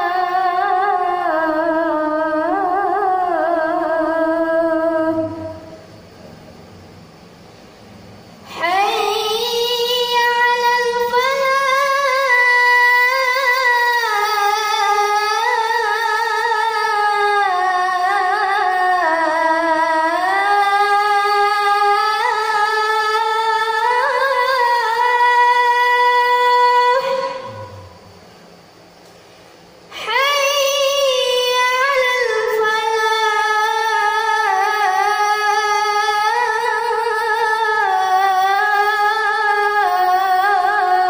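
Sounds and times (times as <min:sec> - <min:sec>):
boy singing call to prayer: 0:00.0 - 0:06.0, 0:08.4 - 0:28.2, 0:29.9 - 0:41.0.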